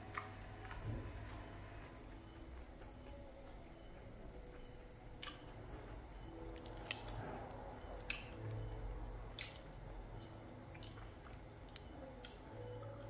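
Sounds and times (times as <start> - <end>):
person chewing food: 0.0 - 8.7, 9.3 - 13.0
faint low hum: 0.0 - 13.0.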